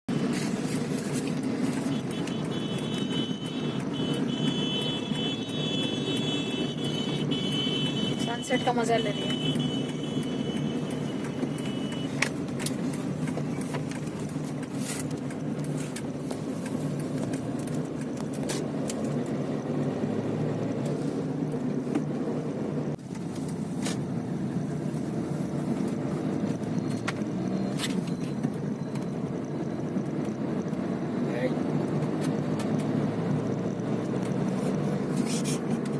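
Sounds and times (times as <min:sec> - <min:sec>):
car cabin road rumble: 0:00.1 - 0:35.9.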